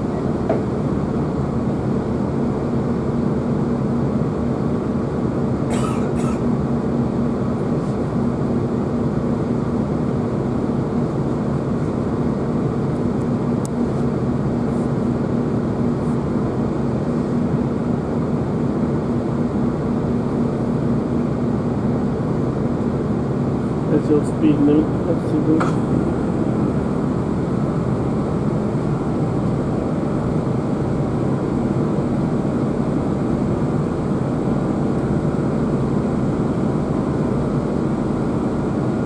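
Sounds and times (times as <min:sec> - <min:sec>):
diesel train engine drone: 0:00.0 - 0:39.0.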